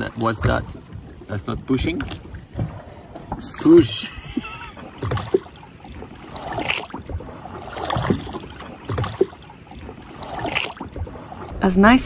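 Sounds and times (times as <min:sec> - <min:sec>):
water splashing against a dinghy: 0:00.0 - 0:12.0.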